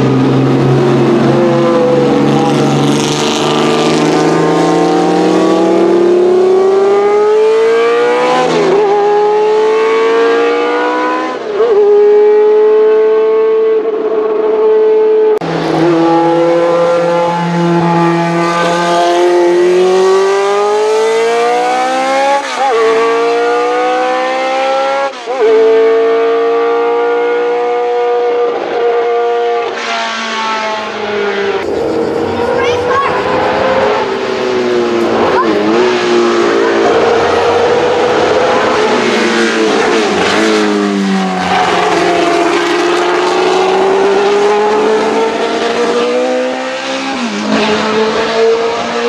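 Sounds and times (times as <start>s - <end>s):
racing car engines at high revs: 0.0s - 49.0s.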